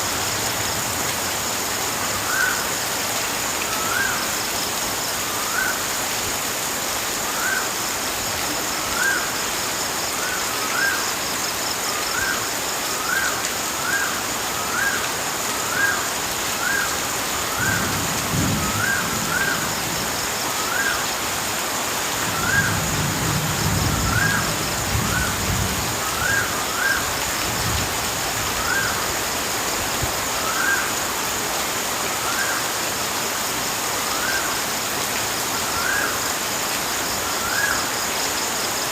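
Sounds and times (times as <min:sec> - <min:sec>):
insect trill: 0:00.0 - 0:38.9
rushing water: 0:00.0 - 0:38.9.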